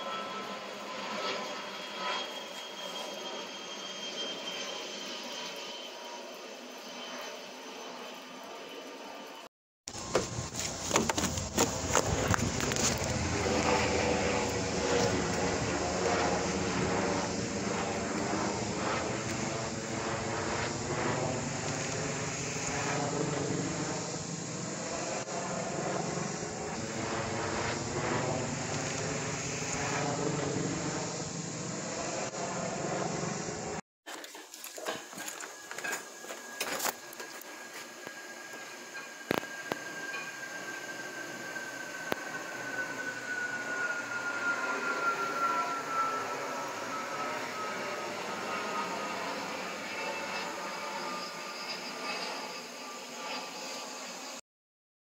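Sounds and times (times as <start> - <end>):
airplane engine drone: 0.0 - 54.4.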